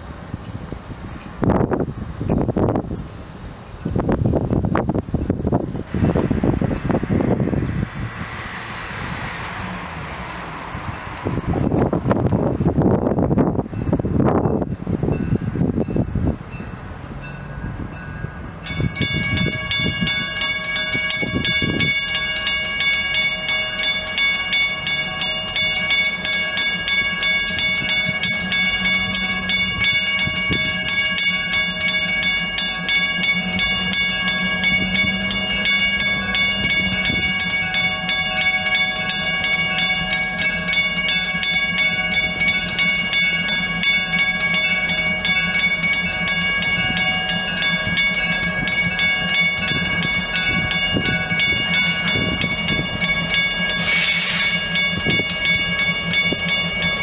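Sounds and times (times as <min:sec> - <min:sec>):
diesel engine running low: 0:00.0 - 0:57.0
locomotive bell ringing: 0:08.2 - 0:57.0.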